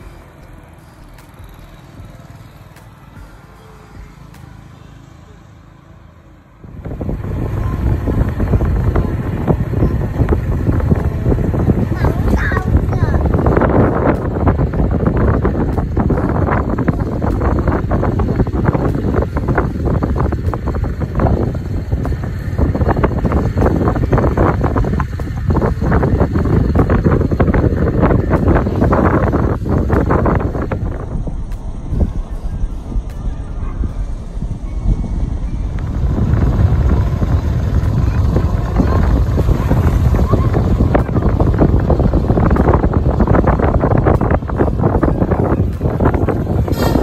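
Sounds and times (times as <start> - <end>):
vehicle road noise on dirt road: 0.0 - 47.0
wind buffeting microphone: 6.6 - 47.0.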